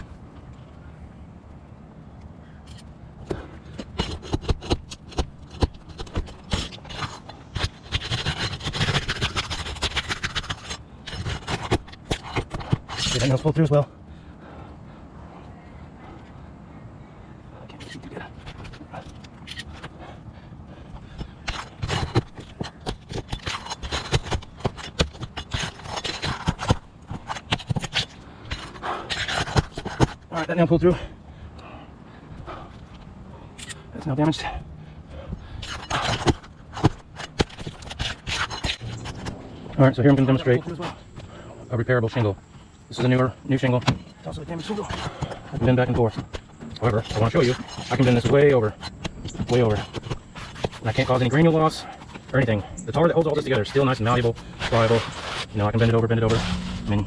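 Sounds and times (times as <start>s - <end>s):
roof shingles clicking and scraping: 2.2s - 14.7s, 17.6s - 57.0s.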